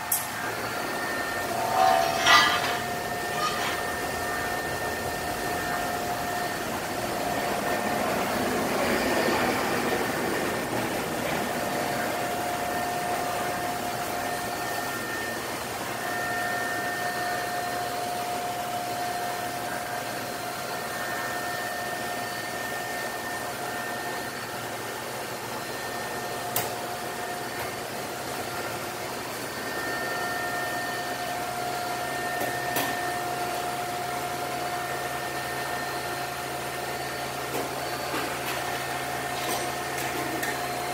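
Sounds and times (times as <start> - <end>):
electric machinery hum and whine: 0.0 - 40.9.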